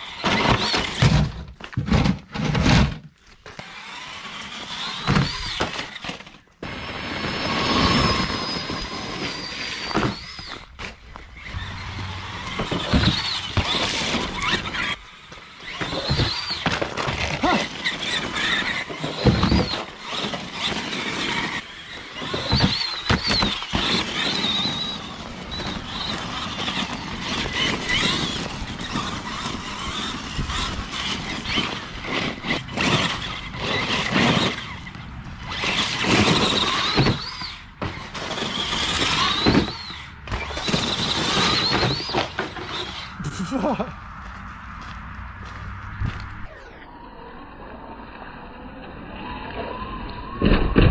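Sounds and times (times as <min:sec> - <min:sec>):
gravel crunching: 0:00.0 - 0:49.8
rc truck motor whine: 0:00.0 - 0:50.9.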